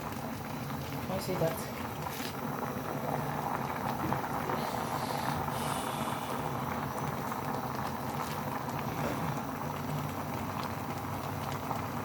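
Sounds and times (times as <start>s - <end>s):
pot of water boiling: 0.0s - 12.0s.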